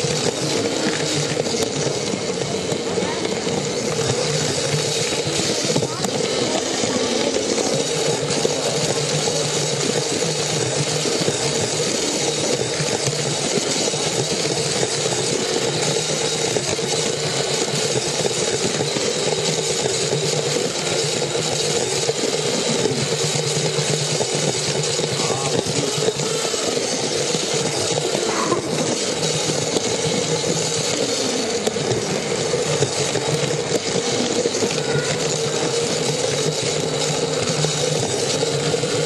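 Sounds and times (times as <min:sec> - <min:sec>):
toy train motor whirring: 0:00.0 - 0:39.0
wheels rattling on plastic track: 0:00.0 - 0:39.0.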